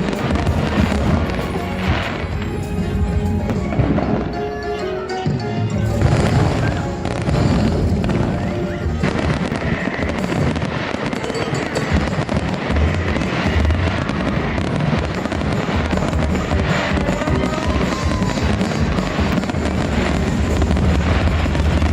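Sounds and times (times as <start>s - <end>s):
fireworks bursting: 0.0s - 21.9s
music soundtrack: 0.0s - 21.9s.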